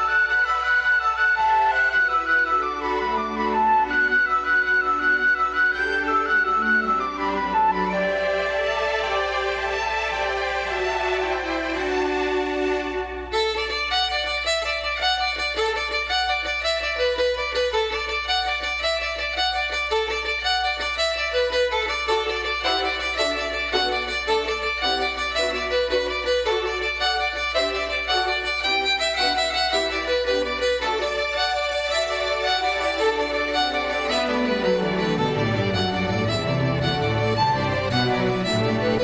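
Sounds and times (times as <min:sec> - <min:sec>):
fiddle folk music: 0:00.0 - 0:39.0.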